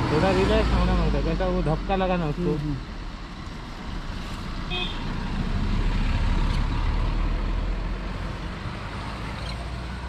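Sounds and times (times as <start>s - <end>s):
vehicle passing on road: 0.0s - 10.0s.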